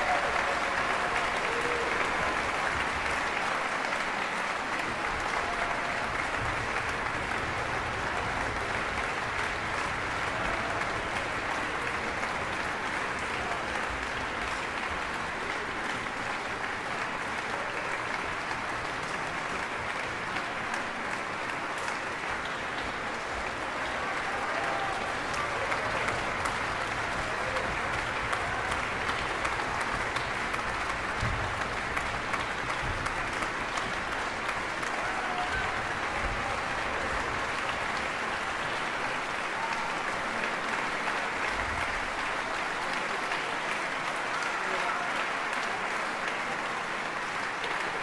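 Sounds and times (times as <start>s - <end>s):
audience applauding: 0.0s - 48.0s.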